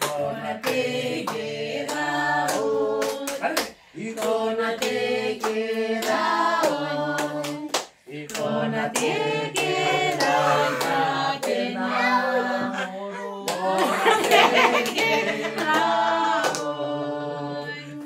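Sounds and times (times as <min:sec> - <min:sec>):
hand clapping: 0:00.0 - 0:11.6, 0:13.5 - 0:16.7
group singing: 0:00.0 - 0:18.0.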